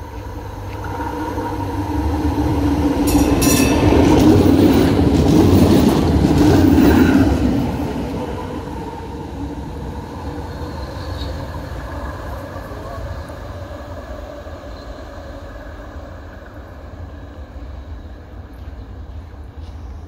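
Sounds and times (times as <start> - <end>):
tram passing on rails: 0.0 - 20.0.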